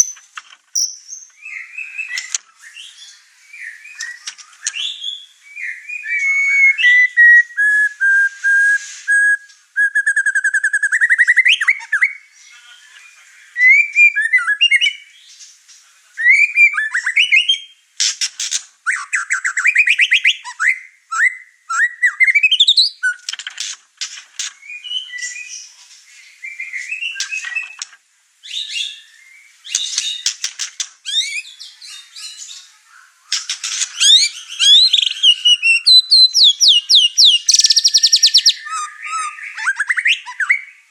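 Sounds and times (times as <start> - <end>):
bird singing whistles and trills: 0.8 - 15.2, 16.2 - 17.8, 18.8 - 23.3, 24.6 - 32.7, 33.3 - 40.9.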